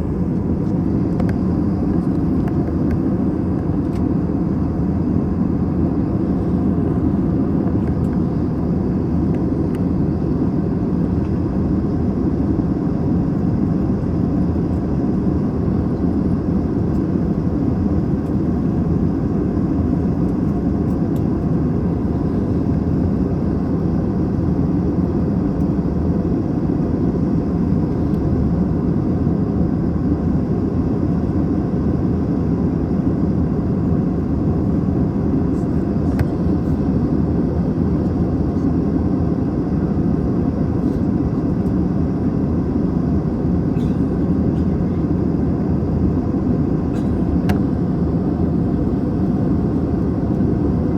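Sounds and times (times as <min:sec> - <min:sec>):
airplane cabin engine and airflow noise: 0:00.0 - 0:50.9.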